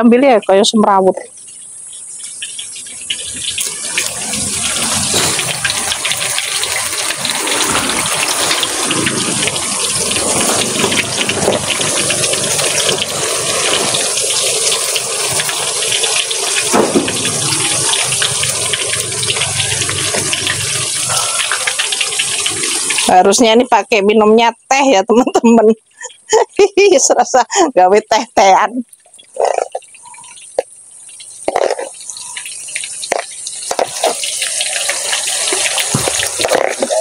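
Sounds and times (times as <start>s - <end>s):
fritters sizzling in hot oil: 0.1s - 27.6s, 28.4s - 37.0s.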